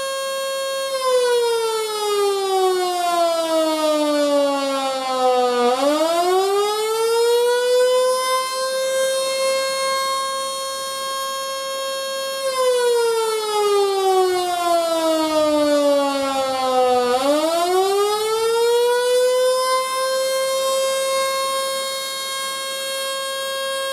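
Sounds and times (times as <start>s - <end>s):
siren wailing: 0.0s - 23.9s.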